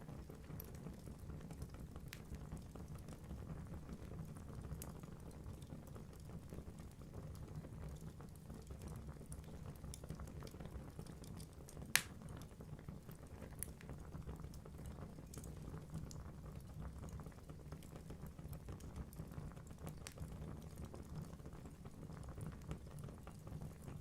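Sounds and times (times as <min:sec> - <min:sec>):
fire burning with crackles: 0:00.0 - 0:24.0.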